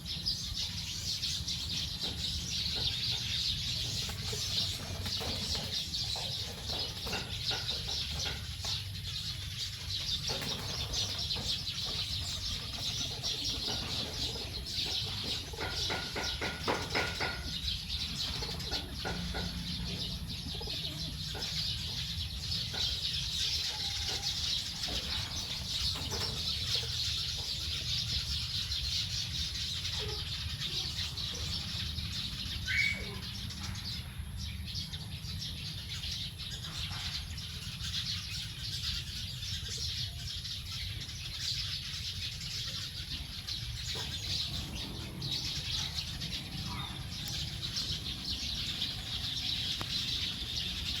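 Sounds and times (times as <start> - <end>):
flock of small birds chirping: 0.0 - 51.0.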